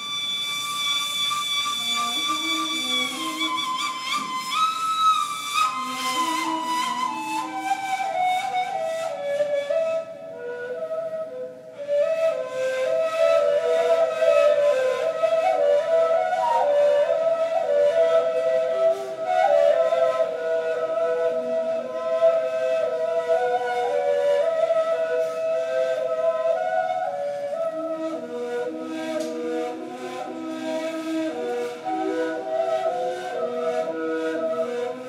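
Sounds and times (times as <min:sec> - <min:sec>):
reed flutes playing melody: 0:00.0 - 0:35.0.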